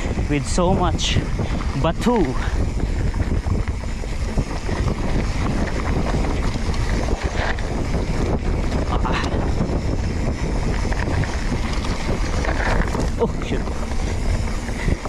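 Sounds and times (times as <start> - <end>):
mountain bike rattling over rocks: 0.0 - 15.0
wind buffeting microphone: 0.0 - 15.0.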